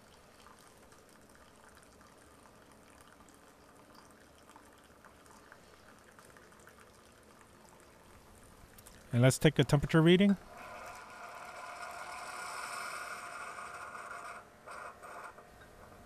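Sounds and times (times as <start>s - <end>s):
coffee trickling into a mug: 0.0s - 9.1s, 10.5s - 16.0s.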